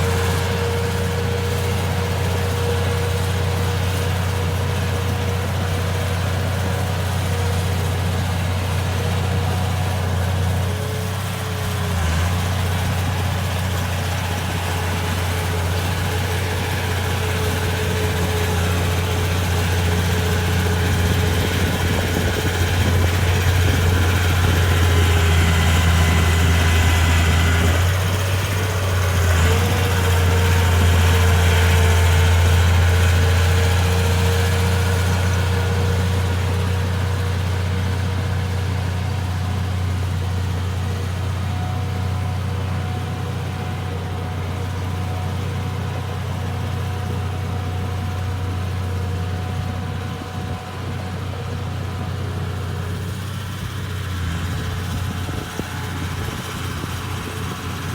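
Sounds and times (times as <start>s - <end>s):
bulldozer diesel engine running: 0.0s - 57.9s
high engine whine: 0.0s - 57.9s.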